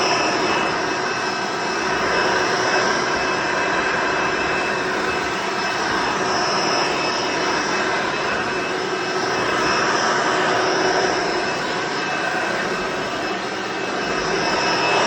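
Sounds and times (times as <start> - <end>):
upright vacuum cleaner running: 0.0 - 15.0.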